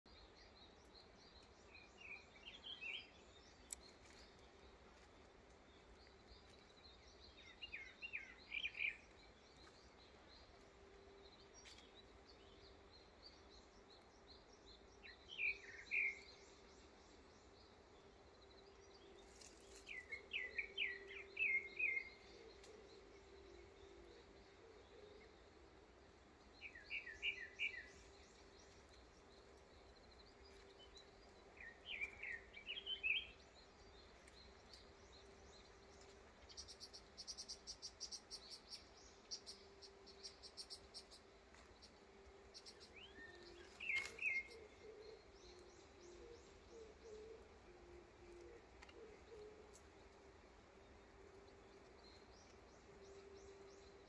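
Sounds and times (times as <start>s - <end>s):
faint low hum: 0.1s - 54.0s.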